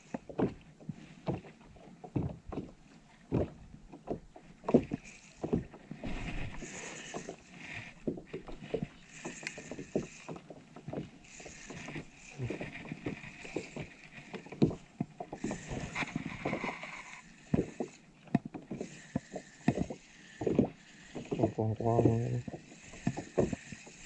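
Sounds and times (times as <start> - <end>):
water lapping against kayak hull: 0.0 - 24.0.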